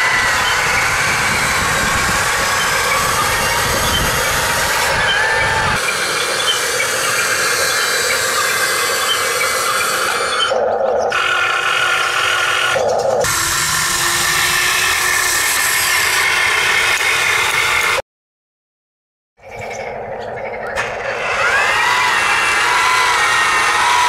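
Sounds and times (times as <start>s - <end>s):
electric motors whining: 0.0s - 18.0s, 20.6s - 24.0s.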